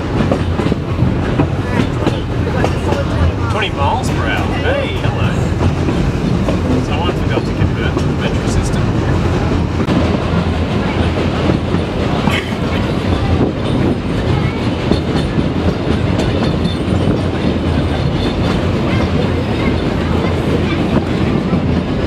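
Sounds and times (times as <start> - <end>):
steam train rumble: 0.0 - 22.0
wheels clattering over rail joints: 0.0 - 22.0.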